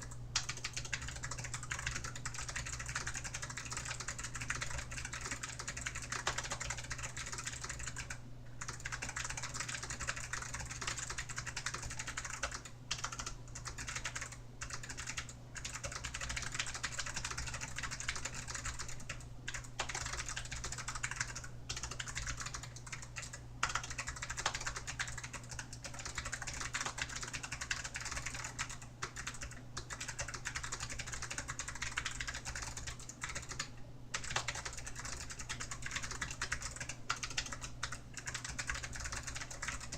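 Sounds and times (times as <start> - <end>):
fast keyboard typing clicks: 0.1 - 39.9.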